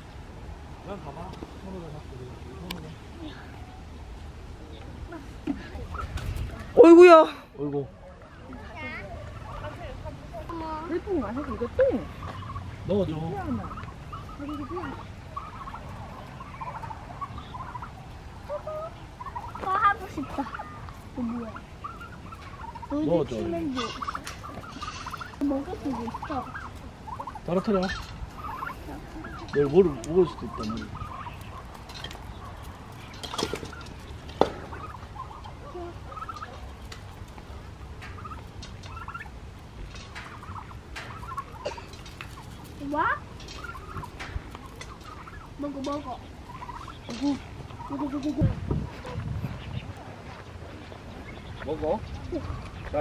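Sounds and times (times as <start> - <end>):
turkeys calling: 0.0 - 53.0.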